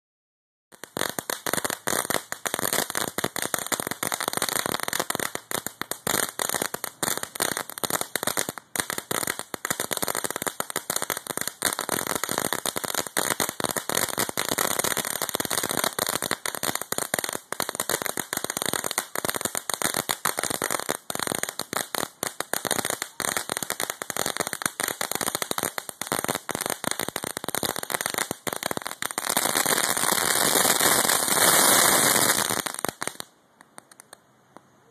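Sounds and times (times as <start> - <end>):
firework crackling: 0.7 - 34.2
firework sparks hissing: 0.8 - 34.0.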